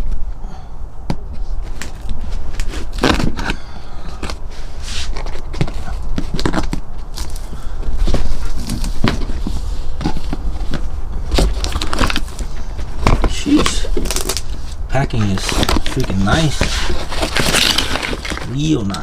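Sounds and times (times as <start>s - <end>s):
steady low rumble: 0.0s - 19.0s
packing material crinkling: 1.5s - 19.0s
cardboard box being opened: 1.6s - 19.0s.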